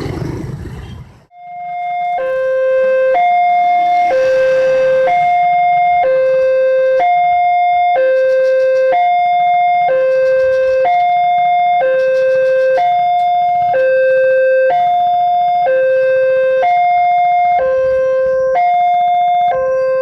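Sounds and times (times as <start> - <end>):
two-tone level-crossing alarm: 1.3 - 20.0.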